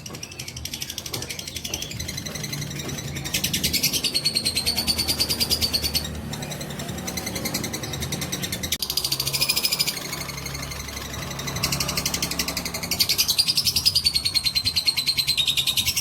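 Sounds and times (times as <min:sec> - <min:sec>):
lovebird chattering trill: 0:00.0 - 0:16.0.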